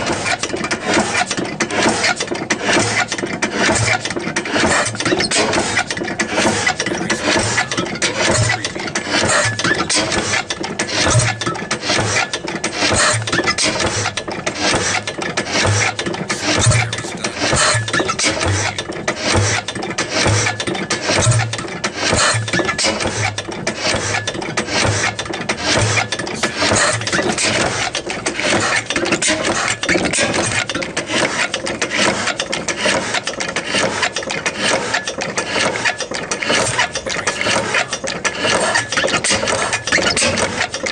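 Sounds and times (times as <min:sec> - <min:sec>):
steam engine clattering: 0:00.0 - 0:40.9.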